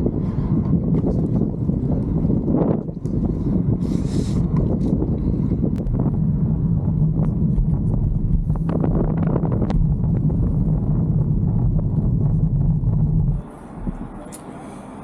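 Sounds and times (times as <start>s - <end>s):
vehicle low drone: 0.0s - 15.0s
wind buffeting microphone: 0.0s - 15.0s.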